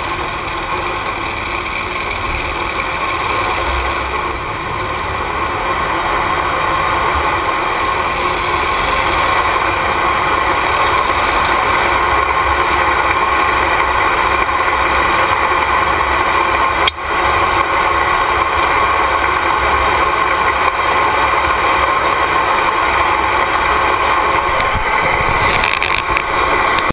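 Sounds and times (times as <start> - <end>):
engine idling: 0.0 - 26.9.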